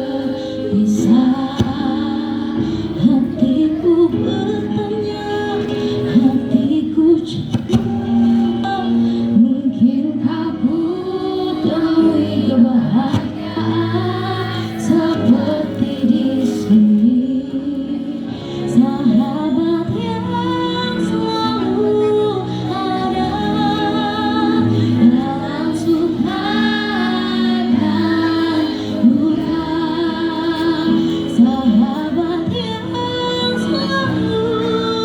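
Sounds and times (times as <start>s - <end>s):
choir singing: 0.0s - 35.0s.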